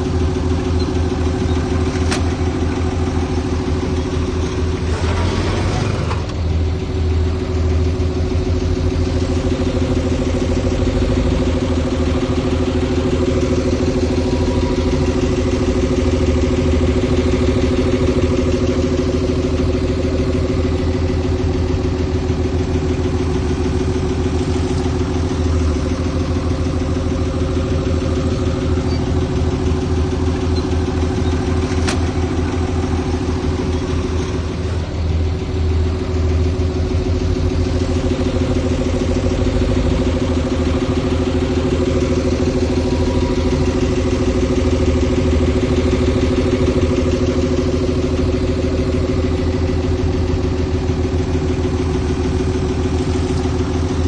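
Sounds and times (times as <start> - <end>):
diesel engine throbbing: 0.0 - 54.0.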